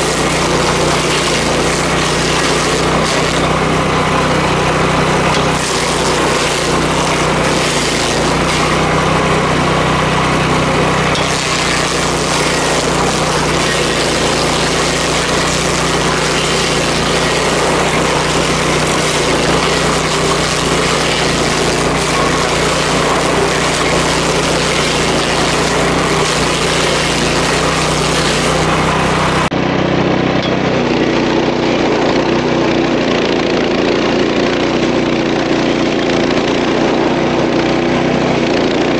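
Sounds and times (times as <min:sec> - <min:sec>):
stump grinder grinding: 0:00.0 - 0:38.9.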